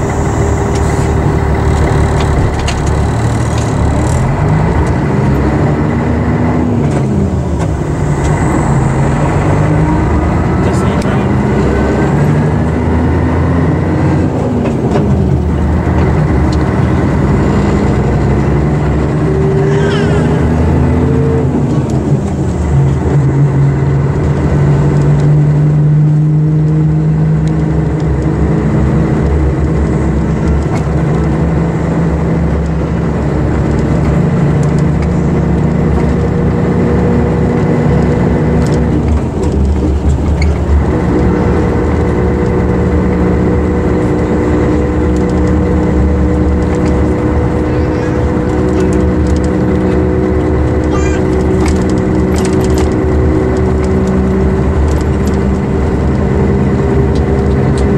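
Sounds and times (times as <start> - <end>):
diesel coach engine: 0.0 - 57.9.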